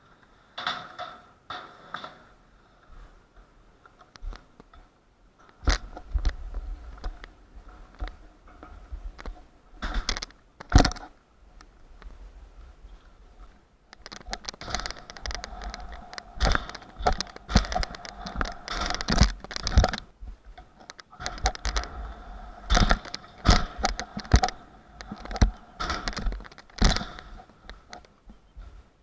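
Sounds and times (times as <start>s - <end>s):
skateboard wheels rolling on concrete: 0.0s - 29.0s.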